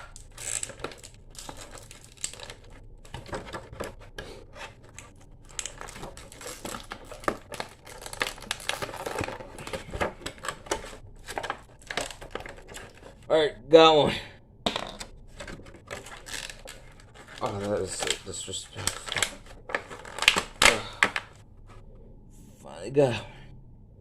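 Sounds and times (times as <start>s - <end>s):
plastic accessories clicking: 0.0s - 13.2s, 14.7s - 21.4s
plastic packaging crinkling: 0.0s - 13.3s, 14.8s - 21.8s.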